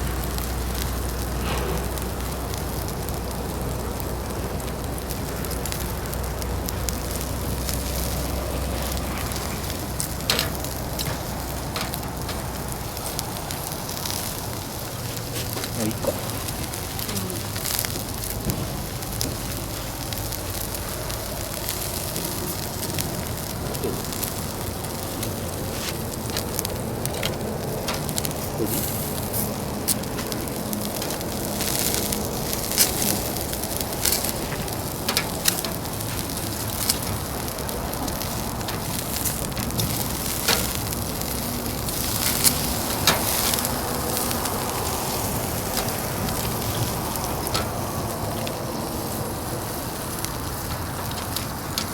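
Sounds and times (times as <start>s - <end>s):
fire crackling and popping: 0.0s - 51.9s
food sizzling on a grill: 0.0s - 51.9s.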